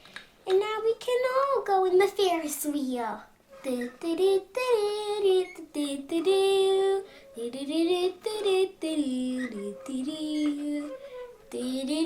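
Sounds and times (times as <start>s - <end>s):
child singing: 0.5s - 12.0s.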